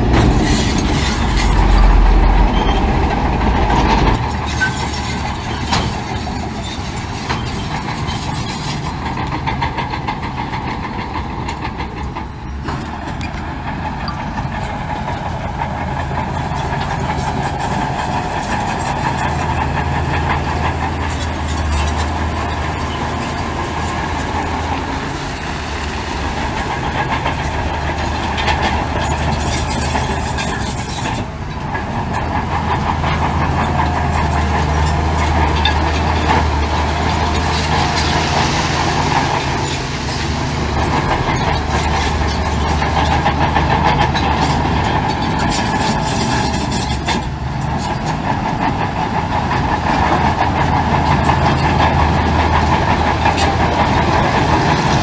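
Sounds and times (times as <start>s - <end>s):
bulldozer diesel engine running: 0.0s - 55.0s
metallic clatter of tracks: 0.0s - 55.0s.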